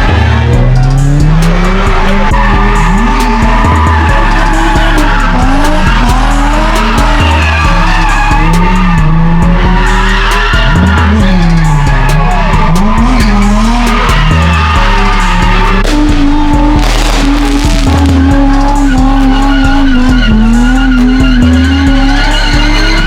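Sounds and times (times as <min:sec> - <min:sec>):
car engine revving: 0:00.0 - 0:23.0
hip-hop beat: 0:00.0 - 0:23.0
tyres squealing: 0:00.0 - 0:23.0.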